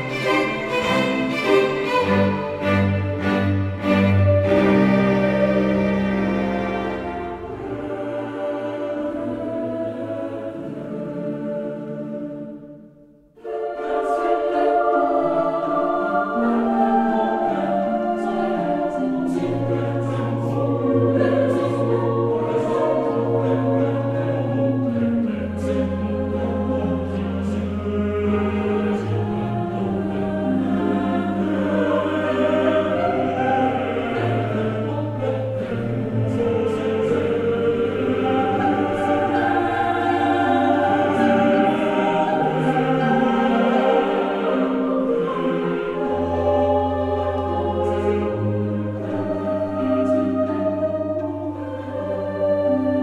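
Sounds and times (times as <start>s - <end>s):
choir singing sustained chords: 0.0s - 53.0s.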